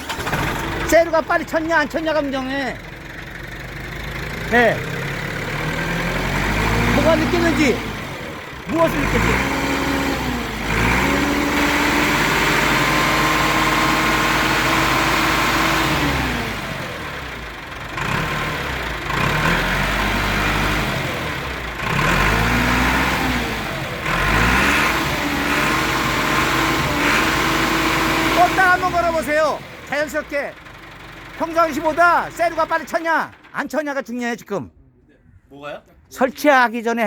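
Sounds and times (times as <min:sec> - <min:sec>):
tractor diesel engine revving: 0:00.0 - 0:34.1.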